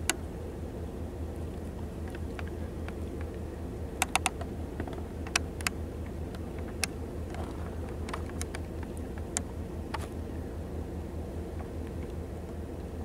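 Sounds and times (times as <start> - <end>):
low fire rumble: 0.0 - 13.0.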